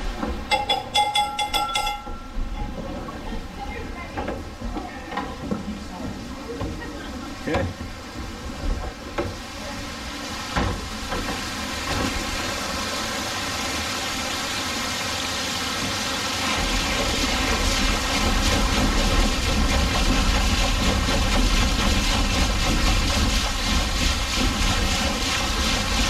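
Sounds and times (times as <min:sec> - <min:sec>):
water rushing onto waterwheel: 0:00.0 - 0:26.0.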